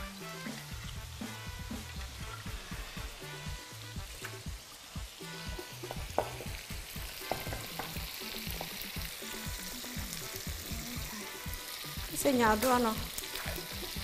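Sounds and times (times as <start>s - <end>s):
food sizzling in hot oil: 0.0s - 14.0s
soft bass line music: 0.0s - 14.0s.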